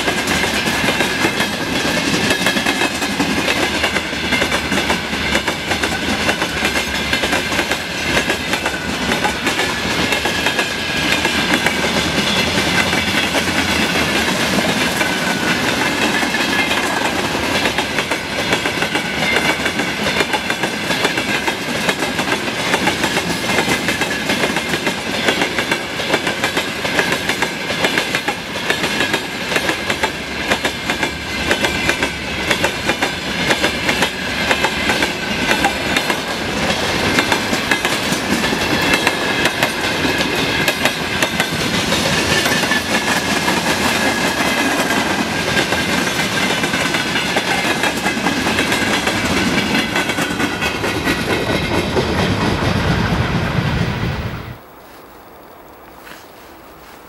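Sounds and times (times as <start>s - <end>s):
freight train wheels clicking: 0.0s - 54.6s.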